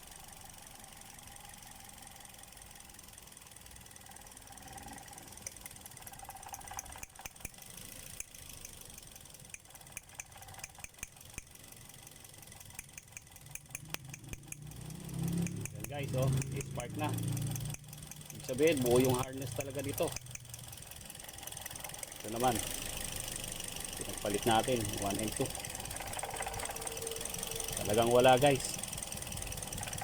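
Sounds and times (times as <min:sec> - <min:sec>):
car engine idling roughly: 0:00.0 - 0:30.0
sharp irregular clicks: 0:00.0 - 0:30.0.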